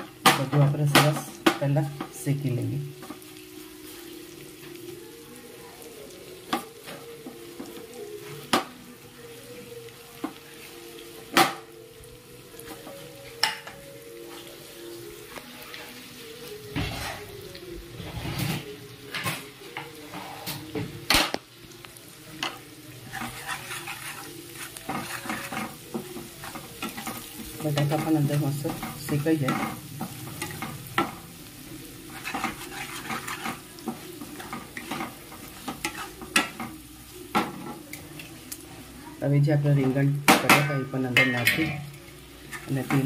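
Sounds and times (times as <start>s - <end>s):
potatoes sizzling in hot oil: 0.0s - 43.0s.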